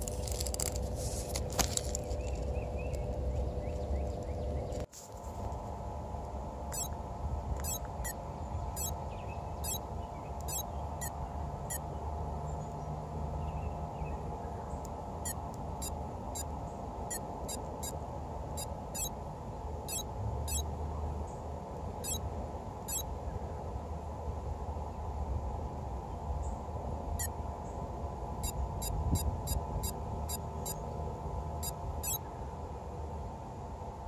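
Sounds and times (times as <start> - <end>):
constant droning hum: 0.0 - 34.0.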